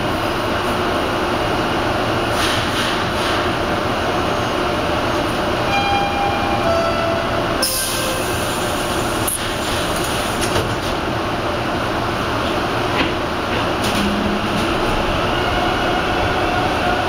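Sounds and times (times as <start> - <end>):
subway car hum and hiss: 0.0 - 17.0.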